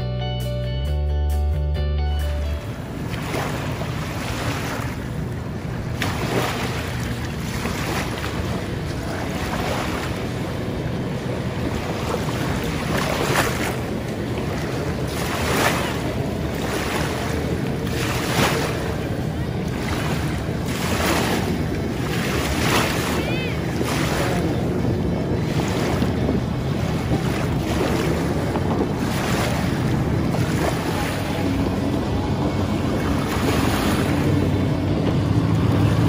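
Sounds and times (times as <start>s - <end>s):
jet skis droning: 0.0s - 36.0s
choppy river water: 2.3s - 36.0s
wind buffeting microphone: 2.6s - 36.0s.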